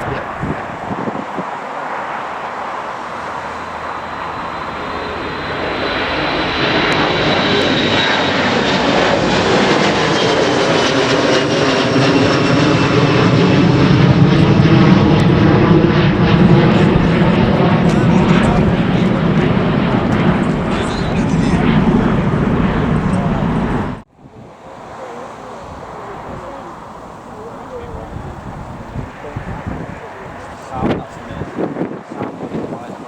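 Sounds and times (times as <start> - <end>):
airliner engines whining: 0.0 - 33.0.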